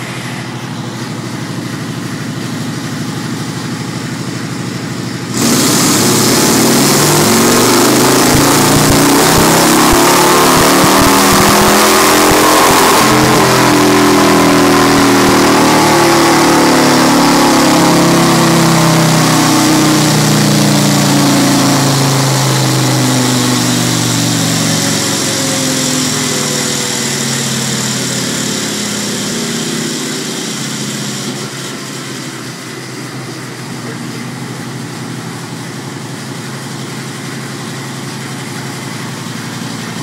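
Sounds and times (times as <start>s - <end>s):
motorcycle engine winding down: 0.0s - 40.0s.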